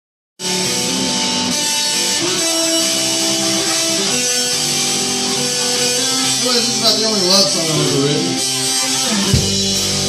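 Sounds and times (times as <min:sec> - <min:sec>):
live band playing: 0:00.4 - 0:10.0
ringing electric guitar notes: 0:00.4 - 0:10.0.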